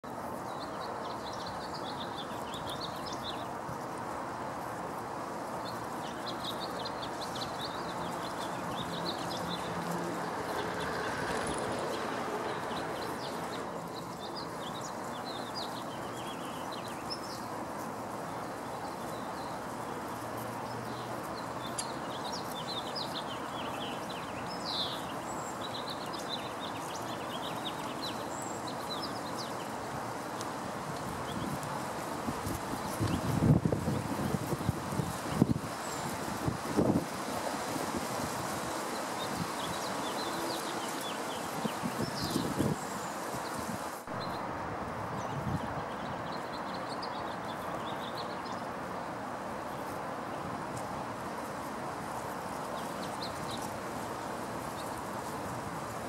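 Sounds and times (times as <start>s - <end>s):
small birds chirping: 0.0s - 44.5s, 45.1s - 56.0s
steady background noise: 0.0s - 56.0s.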